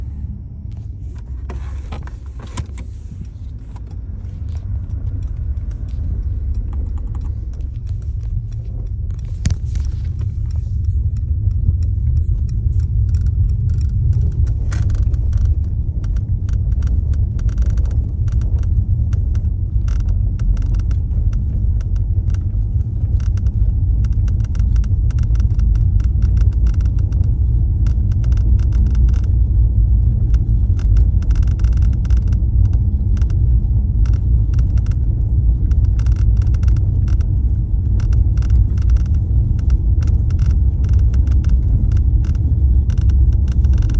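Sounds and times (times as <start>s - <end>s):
car road rumble: 0.0s - 43.9s
rattling clicks: 1.2s - 43.9s.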